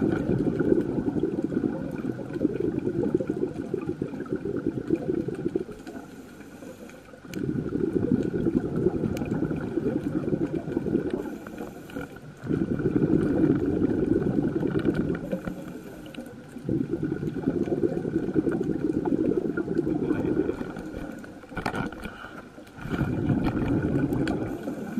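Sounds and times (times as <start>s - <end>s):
underwater diver's exhaled bubbles: 0.0s - 24.9s.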